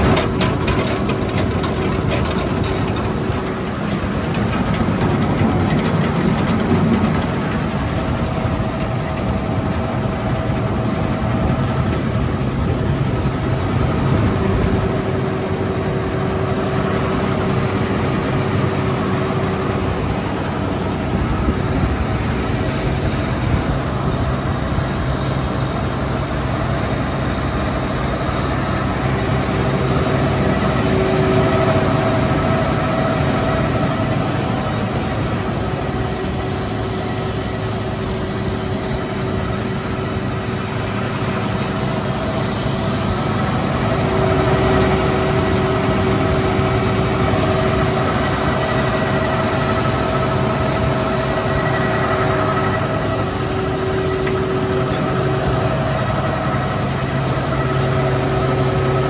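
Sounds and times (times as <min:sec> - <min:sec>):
combine harvester engine running: 0:00.0 - 0:59.0
machine whining tones: 0:00.0 - 0:59.0.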